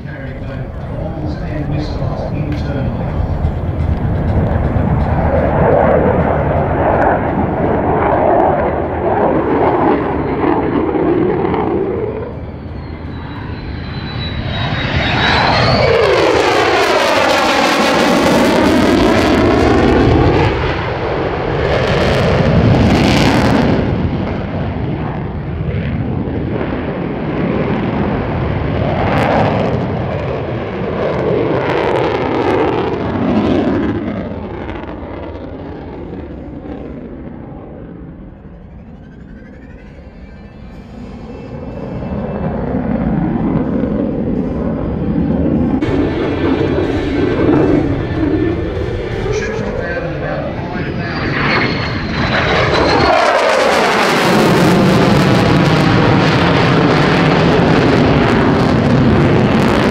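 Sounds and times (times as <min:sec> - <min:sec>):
jet engine in afterburner: 0:00.0 - 0:59.9.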